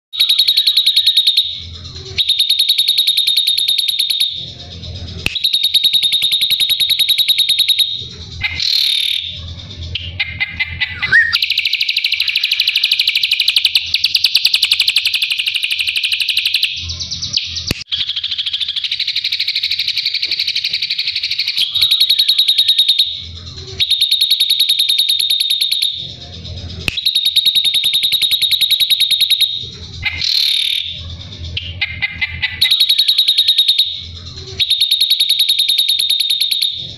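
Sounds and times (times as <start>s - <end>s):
bird singing rapid trills: 0.2s - 36.9s.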